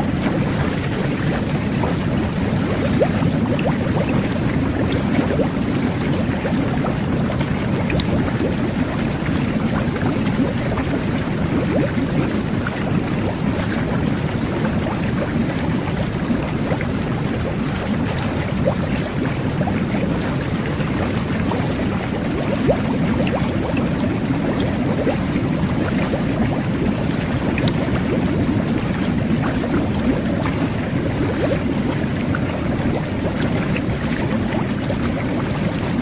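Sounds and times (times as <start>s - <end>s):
jet bath water bubbling: 0.0s - 36.0s
small water splashes: 0.0s - 36.0s.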